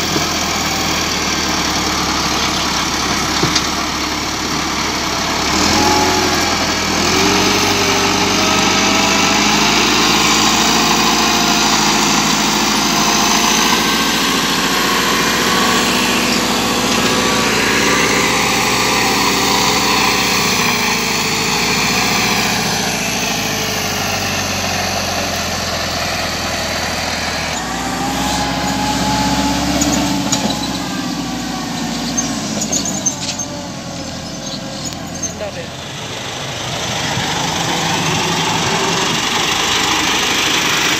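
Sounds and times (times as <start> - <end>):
tractor engines revving: 0.0 - 40.9.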